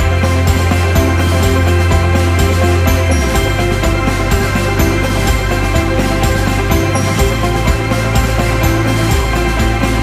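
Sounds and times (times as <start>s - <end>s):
upbeat electronic pop music: 0.0s - 10.0s.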